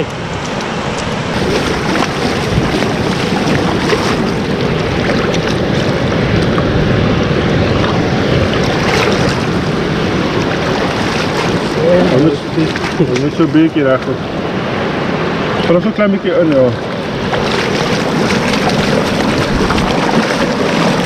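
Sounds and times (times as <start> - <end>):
wind on microphone: 0.0 - 15.7, 16.8 - 21.0
waves washing in shallows: 0.0 - 21.0.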